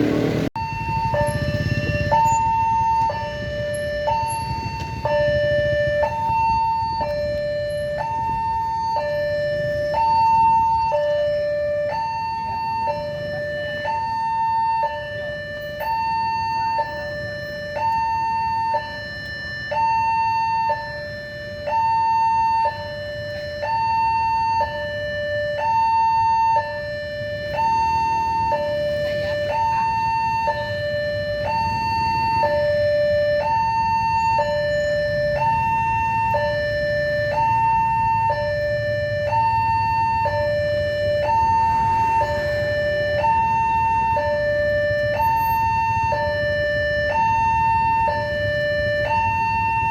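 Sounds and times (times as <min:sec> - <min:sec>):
two-tone crossing warning siren: 0:00.0 - 0:49.9.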